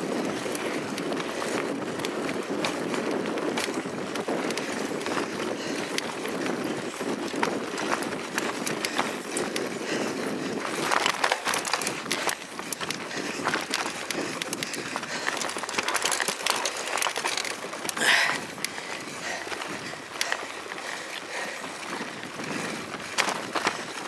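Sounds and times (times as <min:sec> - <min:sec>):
bike tyre noise on dirt trail: 0:00.0 - 0:24.0
rattling clicks from bike: 0:00.1 - 0:24.0.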